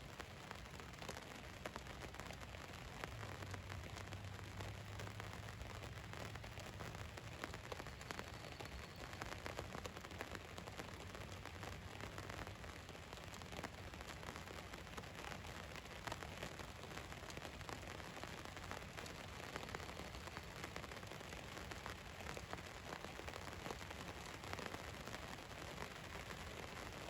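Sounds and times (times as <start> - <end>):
rain falling on a van: 0.0 - 27.0.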